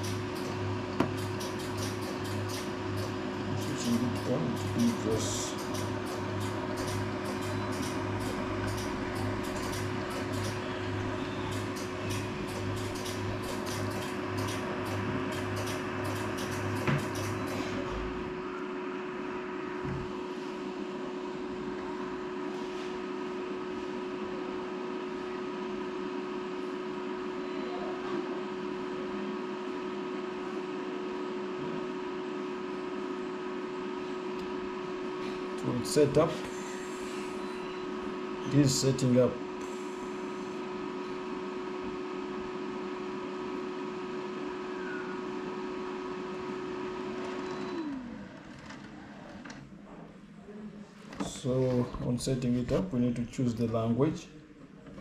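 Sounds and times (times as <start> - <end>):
laser printer humming: 0.0 - 54.5.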